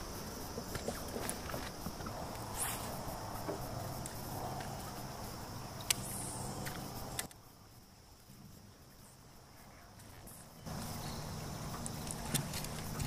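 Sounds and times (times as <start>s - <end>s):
insect drone: 0.0s - 13.0s
steady low hum: 0.0s - 13.0s.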